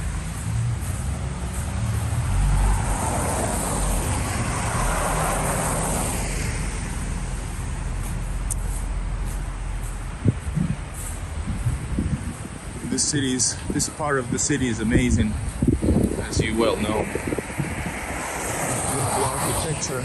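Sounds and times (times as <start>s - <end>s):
vehicle driving past: 0.0s - 12.7s, 15.6s - 20.0s
wind buffeting microphone: 0.0s - 20.0s.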